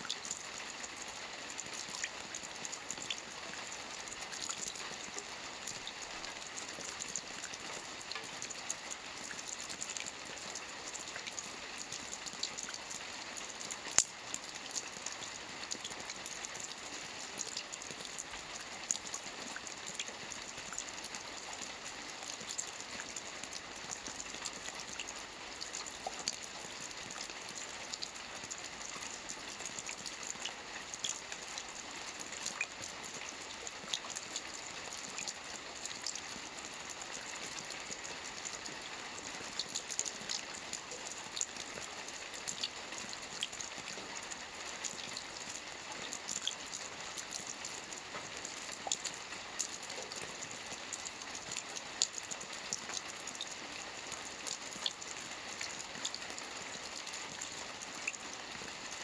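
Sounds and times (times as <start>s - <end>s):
rain pattering on a roof: 0.0s - 59.0s.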